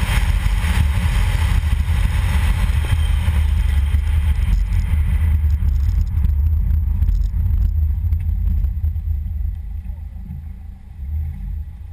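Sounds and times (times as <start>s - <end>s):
tyres on rough road: 0.0s - 11.9s
wind buffeting microphone: 0.0s - 11.9s.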